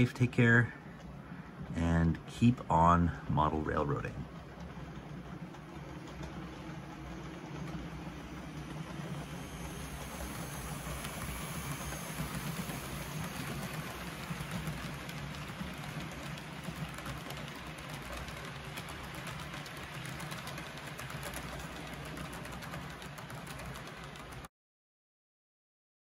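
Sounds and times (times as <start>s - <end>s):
fine clicking: 0.0s - 24.5s
model train rumbling on track: 0.0s - 24.5s.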